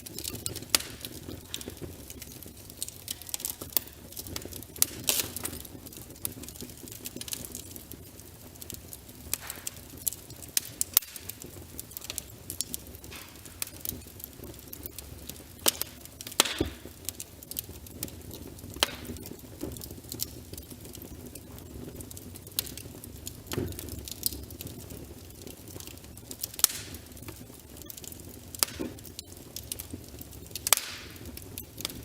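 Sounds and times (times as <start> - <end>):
logs crackling in fireplace: 0.0 - 32.0
low steady fire rumble: 0.0 - 32.0
sharp pops of burning wood: 0.0 - 32.0.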